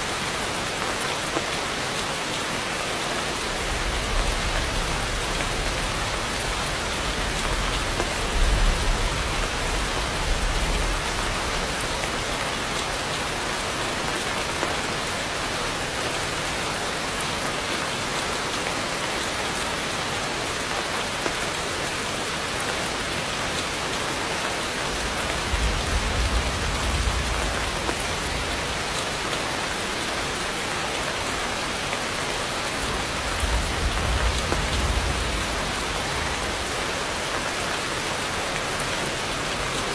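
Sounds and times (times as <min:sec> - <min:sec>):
heavy rain through foliage: 0:00.0 - 0:39.9.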